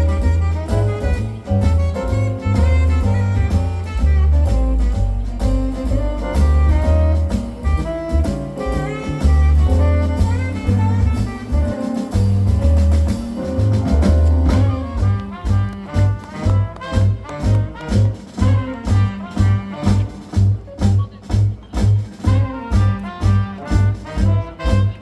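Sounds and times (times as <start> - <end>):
loud bass line: 0.0 - 20.5
horn melody: 0.0 - 20.6, 22.2 - 25.0
cymbals: 0.0 - 25.0
live jazz quintet: 0.0 - 25.0.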